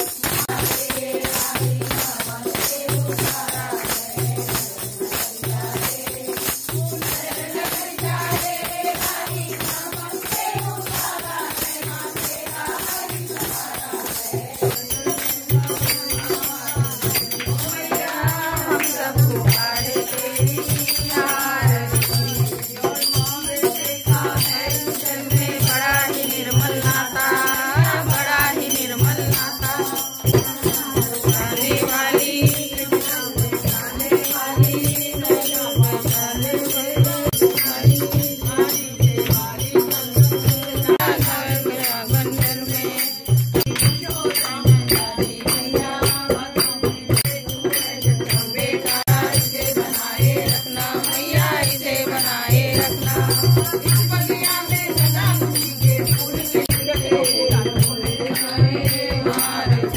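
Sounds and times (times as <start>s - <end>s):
jingling hand percussion: 0.0s - 59.9s
women singing in chorus: 0.0s - 59.9s.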